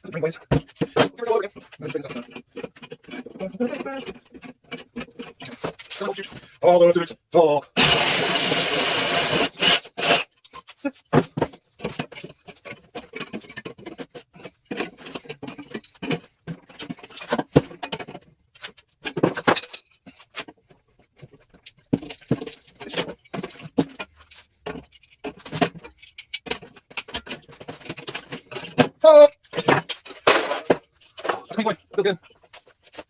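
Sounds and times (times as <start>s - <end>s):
sheet metal clinks and scrapes: 0.0s - 6.6s, 9.4s - 33.0s.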